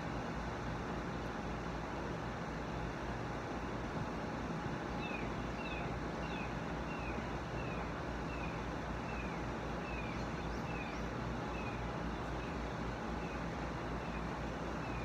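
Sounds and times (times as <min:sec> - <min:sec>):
low outdoor rumble and hiss: 0:00.0 - 0:15.0.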